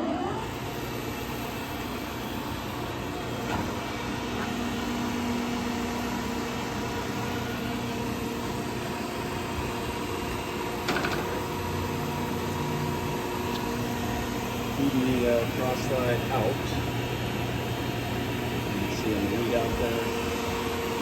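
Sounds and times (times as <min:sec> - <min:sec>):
lathe humming: 0:00.0 - 0:21.0.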